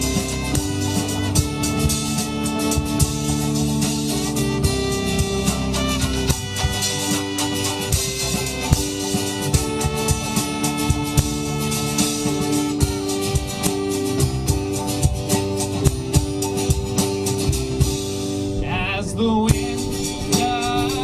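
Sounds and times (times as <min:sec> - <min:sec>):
live folk rock band playing: 0:00.0 - 0:21.0.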